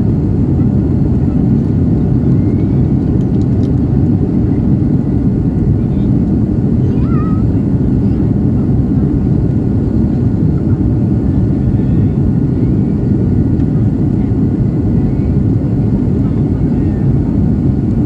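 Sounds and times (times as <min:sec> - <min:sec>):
jet engine roar in cabin: 0:00.0 - 0:18.0.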